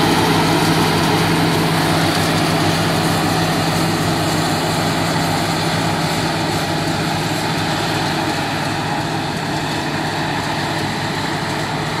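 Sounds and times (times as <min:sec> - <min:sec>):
forage harvester engine drone: 0:00.0 - 0:12.0.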